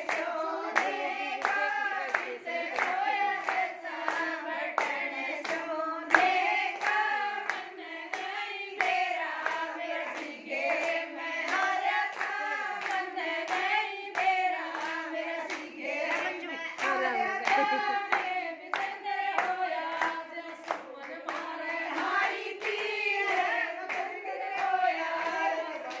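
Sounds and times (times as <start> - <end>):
hands clapping: 0.0 - 26.0
women singing folk song: 0.0 - 26.0.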